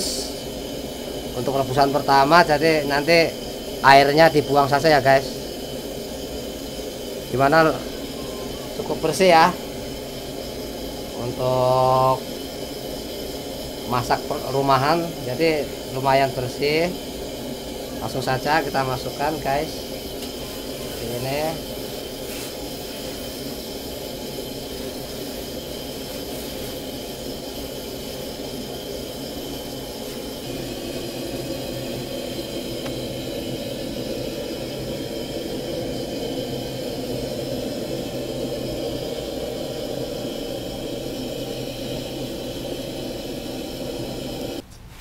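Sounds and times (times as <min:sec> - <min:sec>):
stove burner roaring: 0:00.0 - 0:45.0.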